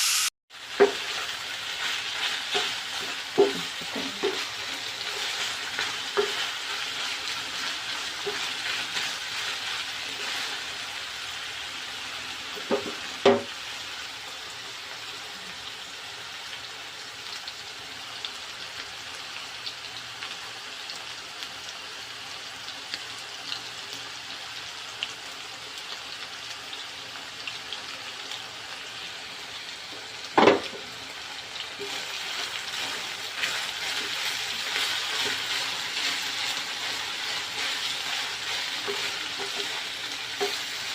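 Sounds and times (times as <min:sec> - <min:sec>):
meat sizzling in a pan: 0:00.0 - 0:40.9.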